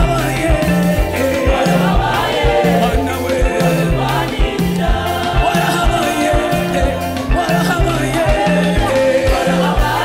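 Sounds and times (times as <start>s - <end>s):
bass line: 0.0s - 10.0s
gospel choir singing: 0.0s - 10.0s.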